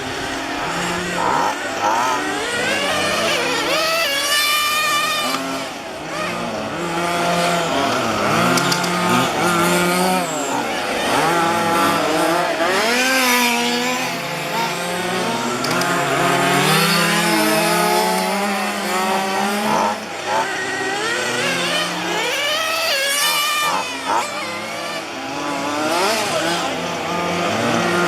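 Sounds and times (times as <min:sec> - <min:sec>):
small two-stroke engines revving: 0:00.0 - 0:28.0.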